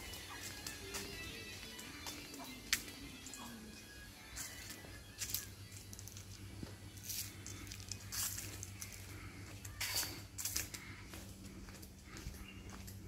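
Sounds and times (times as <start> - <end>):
footsteps on paved path: 0.0 - 13.0
steady low hum: 0.0 - 13.0.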